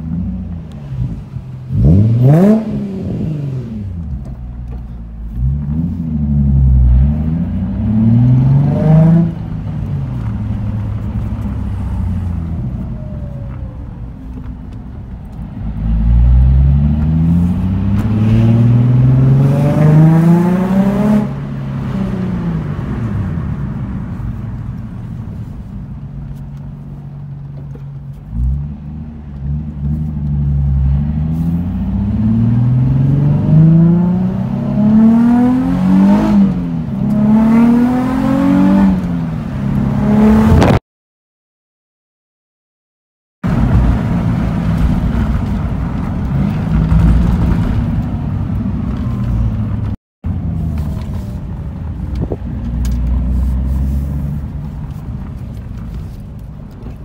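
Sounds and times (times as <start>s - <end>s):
car engine accelerating: 0.0s - 40.8s, 43.5s - 57.0s.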